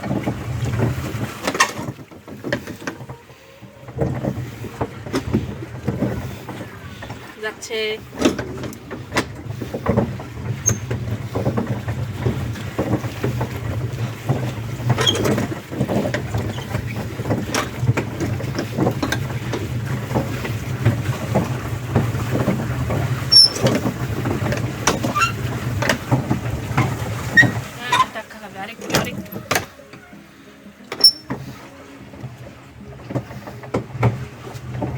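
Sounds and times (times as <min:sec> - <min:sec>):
low rumble of boat: 0:00.0 - 0:34.9
water splashing: 0:00.0 - 0:34.9.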